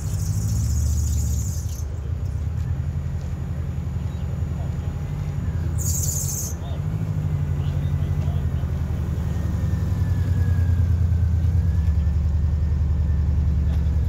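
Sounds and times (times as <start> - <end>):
diesel engines idling: 0.0 - 14.0.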